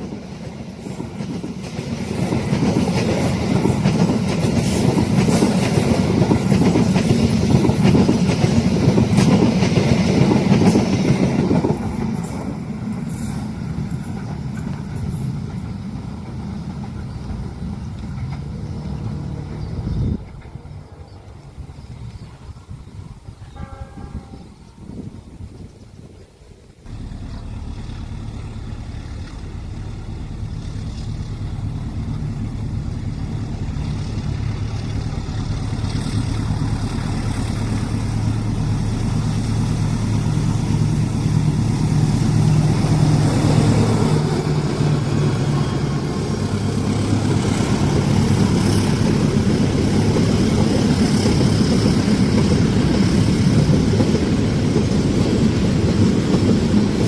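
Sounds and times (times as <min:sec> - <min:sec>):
diesel locomotive engine drone: 0:00.0 - 0:57.0
train cars rolling on rails: 0:00.0 - 0:57.0.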